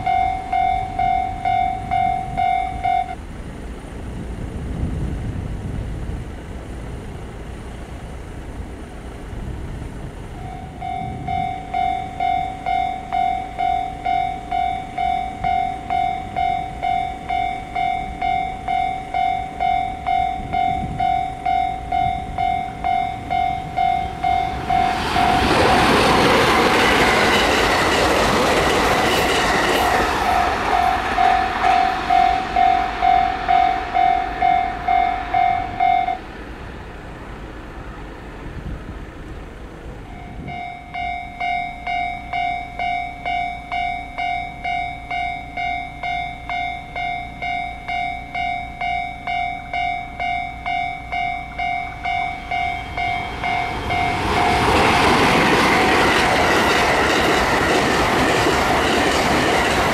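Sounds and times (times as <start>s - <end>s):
level-crossing warning bell: 0.0s - 3.2s, 10.3s - 36.4s, 39.8s - 59.9s
electric train passing: 0.0s - 59.9s.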